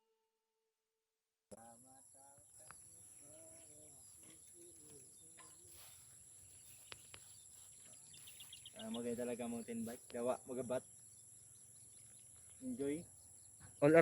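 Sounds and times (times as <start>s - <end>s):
distant voices: 2.6s - 14.0s.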